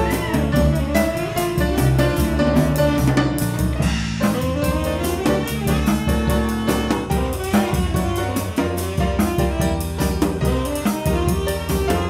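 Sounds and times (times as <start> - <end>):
bass: 0.0 - 12.0
drum kit beat: 0.0 - 12.0
piano: 0.0 - 12.0
saxophone lead: 0.0 - 12.0.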